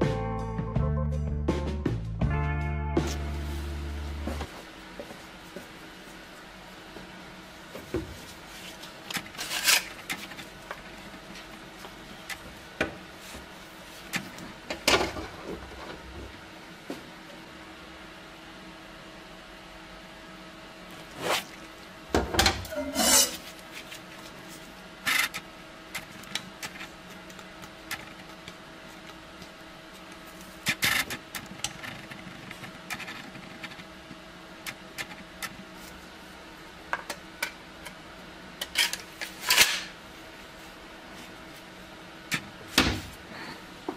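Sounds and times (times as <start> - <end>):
faint steady hum: 2.3 - 43.9.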